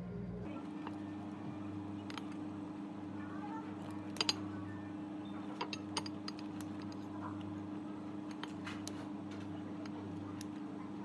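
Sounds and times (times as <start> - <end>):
steady equipment hum: 0.0 - 11.0.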